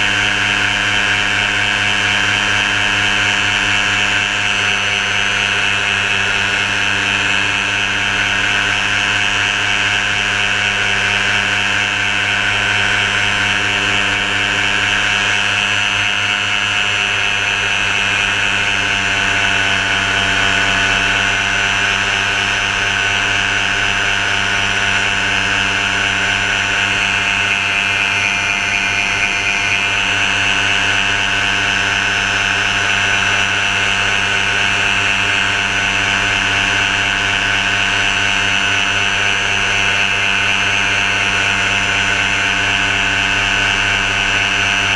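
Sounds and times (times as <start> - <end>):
steady motor drone: 0.0 - 44.9.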